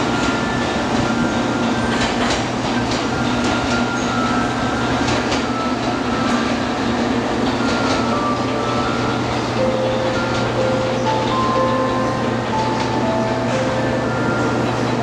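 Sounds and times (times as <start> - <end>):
electric trains humming: 0.0 - 15.0.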